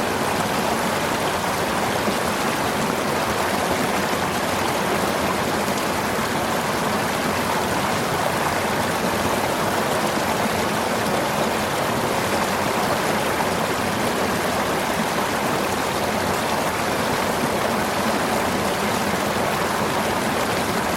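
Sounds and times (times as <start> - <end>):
river water rushing over rocks: 0.0 - 20.9.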